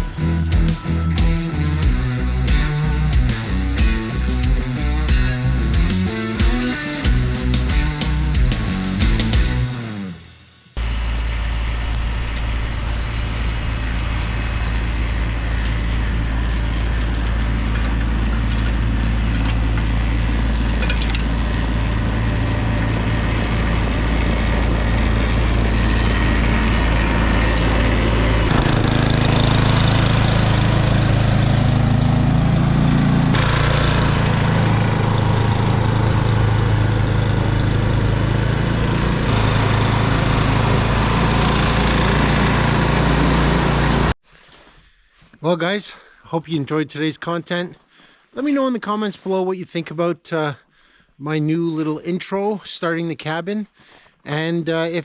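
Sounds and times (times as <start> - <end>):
snow-clearing machine engine running: 0.0 - 44.2.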